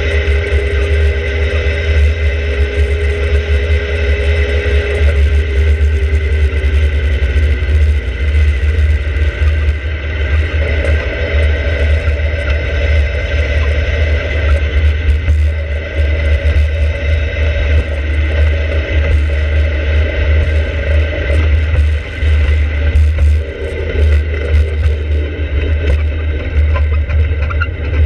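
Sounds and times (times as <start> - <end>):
car engine: 0.0 - 28.0
road noise: 0.0 - 28.0.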